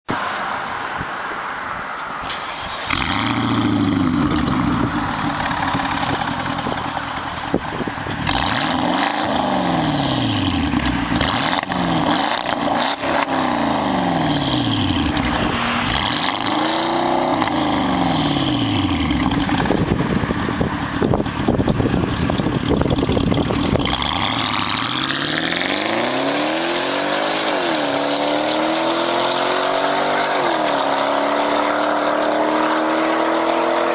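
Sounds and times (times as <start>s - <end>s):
car engine revving: 2.3s - 33.9s
car accelerating hard: 2.4s - 7.3s, 8.1s - 20.7s, 22.0s - 33.9s.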